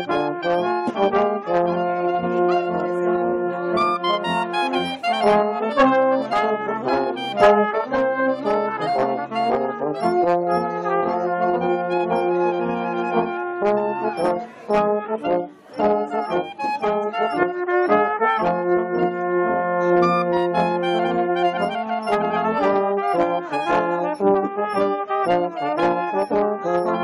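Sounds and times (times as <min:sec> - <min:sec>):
brass band playing chords: 0:00.0 - 0:27.0.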